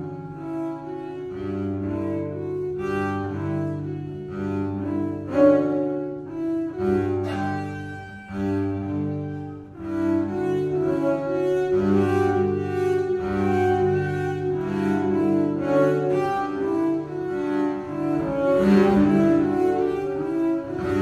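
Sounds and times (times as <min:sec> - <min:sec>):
bowed double basses duet: 0:00.0 - 0:21.0.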